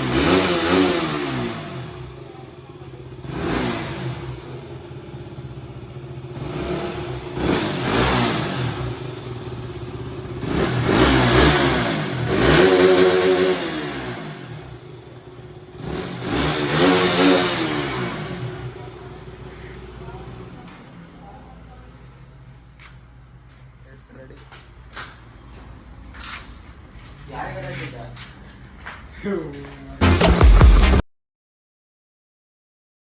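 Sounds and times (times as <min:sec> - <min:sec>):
steady engine hum: 0:00.0 - 0:27.3
vehicle engines passing: 0:00.0 - 0:29.1.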